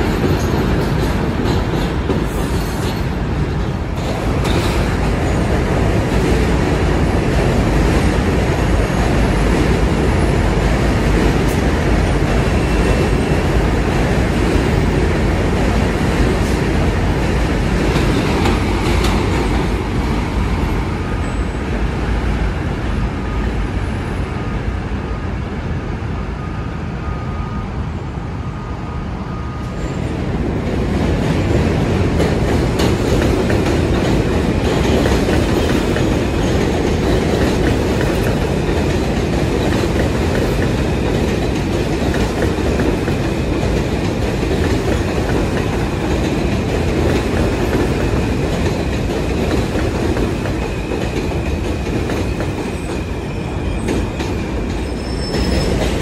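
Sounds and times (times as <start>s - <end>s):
train wheels rumbling over rails: 0.0s - 27.6s, 29.4s - 56.0s.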